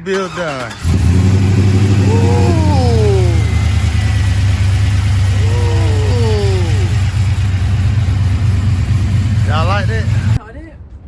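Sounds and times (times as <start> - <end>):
engine idling: 0.0 - 10.4.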